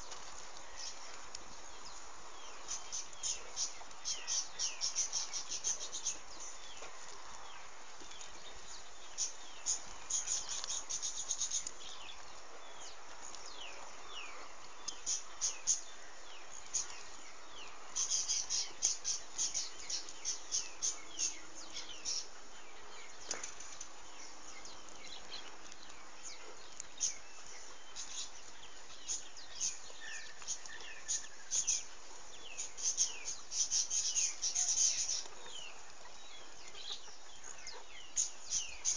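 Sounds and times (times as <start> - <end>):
background hiss: 0.0 - 38.9
small birds chirping: 0.0 - 38.9.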